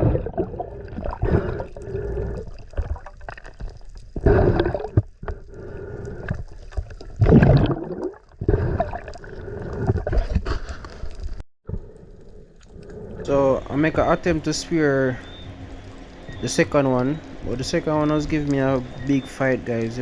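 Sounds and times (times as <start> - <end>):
sea water gurgling and sloshing: 0.0 - 20.0.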